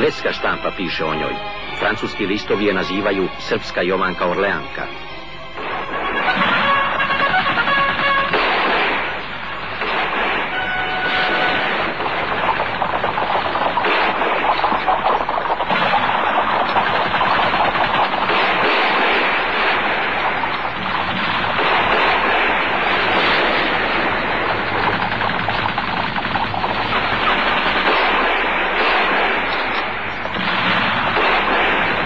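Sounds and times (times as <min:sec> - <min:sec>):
rapid machine-gun fire: 0:05.6 - 0:32.0.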